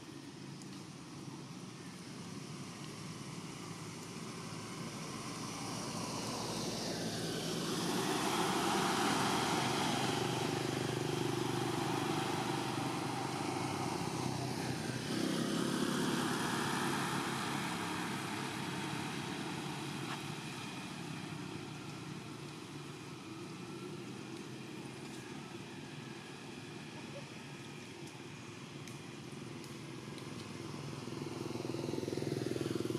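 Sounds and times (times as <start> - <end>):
passing vehicle engine: 3.1 - 27.3, 29.6 - 32.9.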